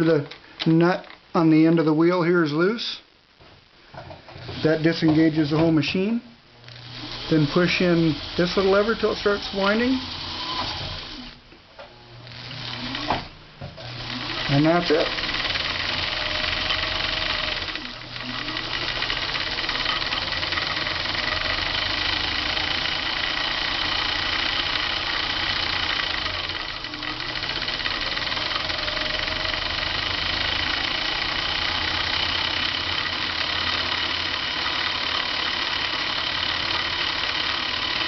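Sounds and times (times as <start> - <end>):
sewing machine motor running: 6.7 - 11.4, 12.1 - 38.0.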